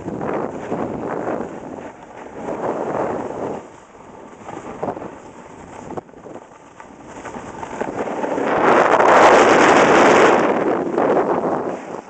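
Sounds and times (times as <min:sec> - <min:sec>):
skis scraping snow: 0:00.0 - 0:12.0
wind noise on microphone: 0:00.0 - 0:12.0.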